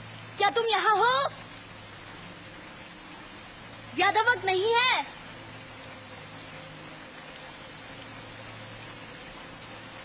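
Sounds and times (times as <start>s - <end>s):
rain falling and splashing: 0.0s - 10.0s.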